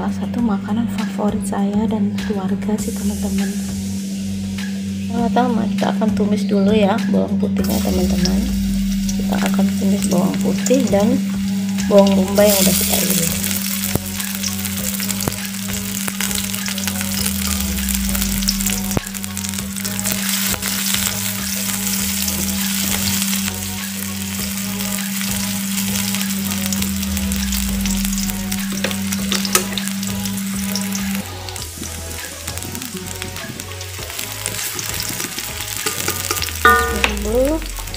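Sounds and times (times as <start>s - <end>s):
low hum: 2.7s - 33.4s, 36.4s - 37.9s
garlic and onion sizzling in oil: 2.8s - 6.1s, 7.6s - 37.9s.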